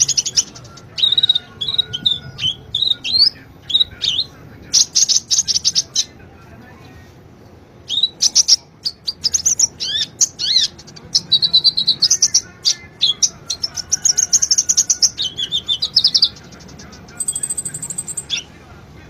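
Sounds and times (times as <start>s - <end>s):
sunbird singing chirps and trills: 0.0s - 6.2s, 7.8s - 18.6s.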